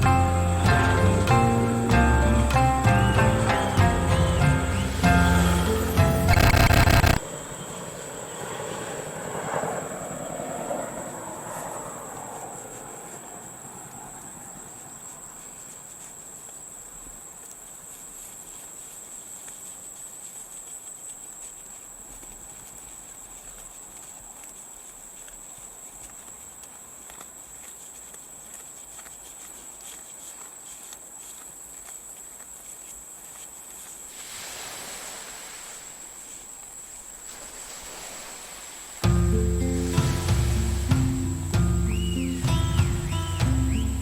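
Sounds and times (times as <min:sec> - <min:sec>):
insects trilling: 0:00.0 - 0:08.9, 0:11.0 - 0:44.0.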